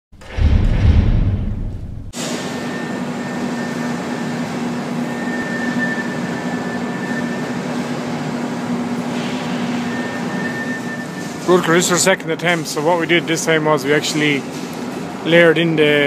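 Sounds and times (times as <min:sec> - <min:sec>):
machinery hum: 0:00.2 - 0:16.0.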